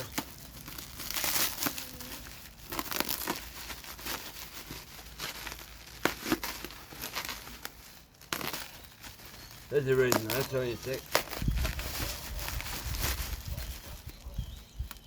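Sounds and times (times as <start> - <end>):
packing material crinkling: 0.0 - 15.0.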